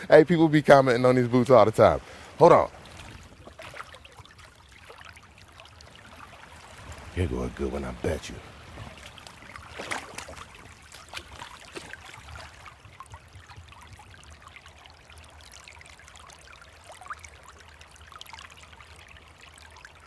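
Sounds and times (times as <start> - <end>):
creek water trickling and gurgling: 0.0 - 20.0.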